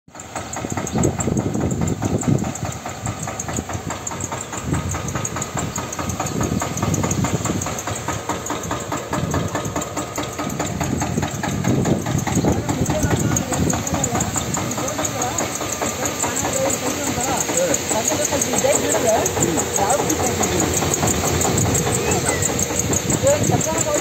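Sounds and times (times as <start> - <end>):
tractor engine running: 0.1 - 24.0
sprayer hiss: 0.2 - 24.0.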